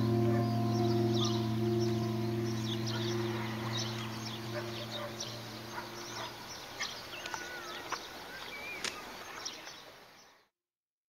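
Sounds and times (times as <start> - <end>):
birds chirping and whistling: 0.0 - 9.8.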